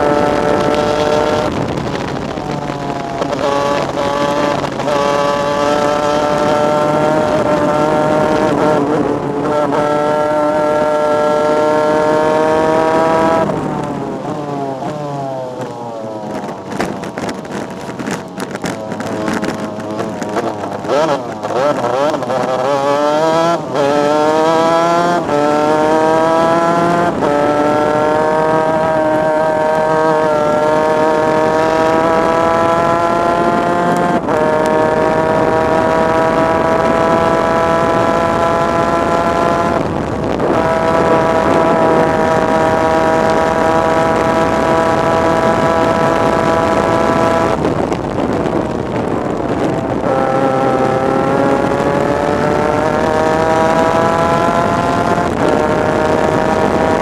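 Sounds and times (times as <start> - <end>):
two-stroke kart engine racing: 0.0 - 57.0.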